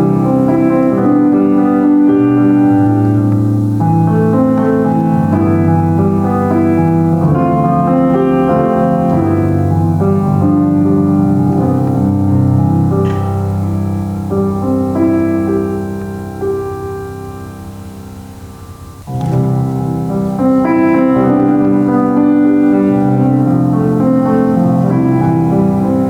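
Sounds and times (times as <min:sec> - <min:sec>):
solo piano chords: 0:00.0 - 0:26.0.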